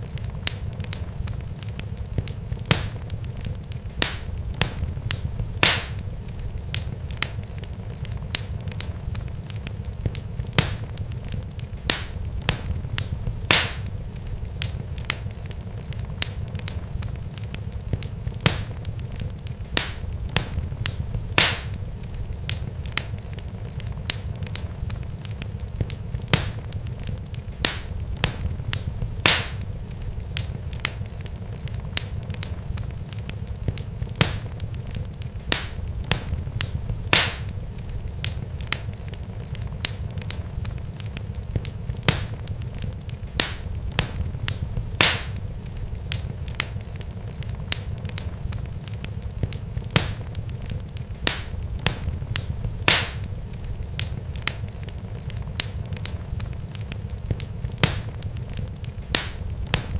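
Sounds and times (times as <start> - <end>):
steady low rumble: 0.0 - 54.6
sharp crackles and pops: 0.0 - 59.9.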